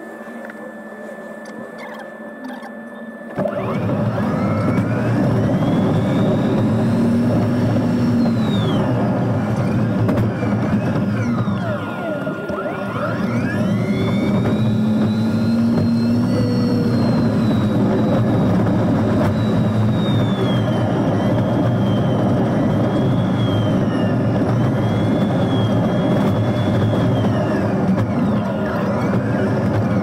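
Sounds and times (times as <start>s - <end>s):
electric motor whine: 0.0s - 30.0s
road and tyre rumble: 3.8s - 11.9s, 13.2s - 30.0s.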